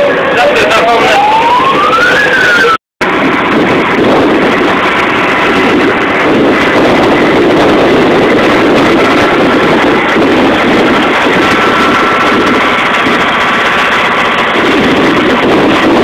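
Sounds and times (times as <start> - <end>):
fire truck engine running: 0.0 - 16.0
fire truck siren wailing: 0.0 - 16.0.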